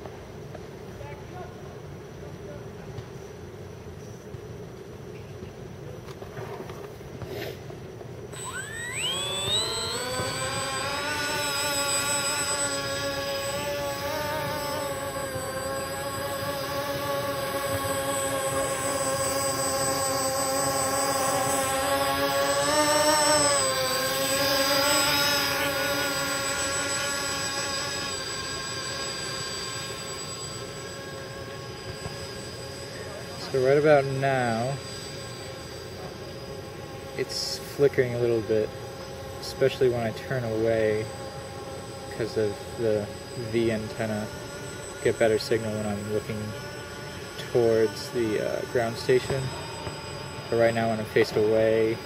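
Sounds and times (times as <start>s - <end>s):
drone motors whining: 8.2s - 52.0s.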